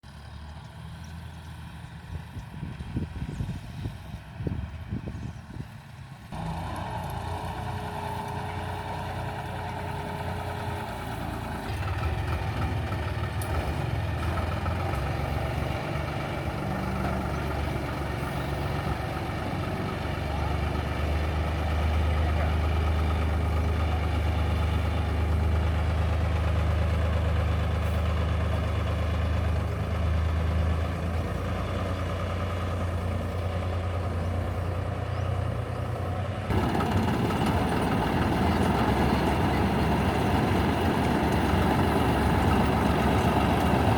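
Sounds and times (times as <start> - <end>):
harvester engine humming: 0.0 - 43.9.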